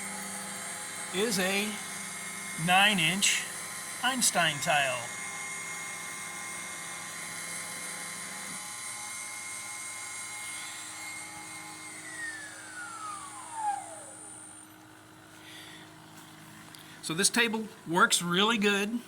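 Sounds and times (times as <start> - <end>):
router spindle whining: 0.0 - 16.7.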